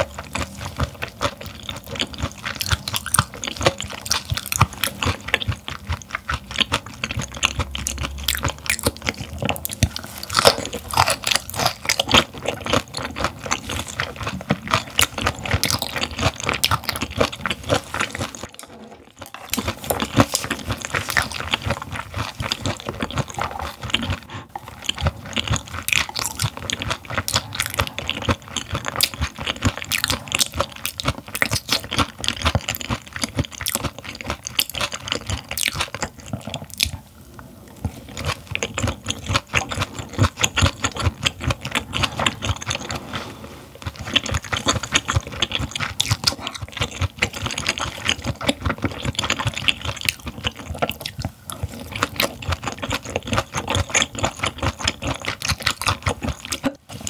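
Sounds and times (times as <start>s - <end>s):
crunchy chewing crackles: 0.0s - 57.0s.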